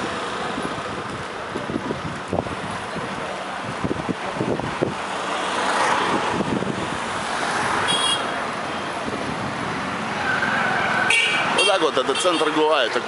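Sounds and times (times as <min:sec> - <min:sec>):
cars and scooters passing: 0:00.0 - 0:13.0.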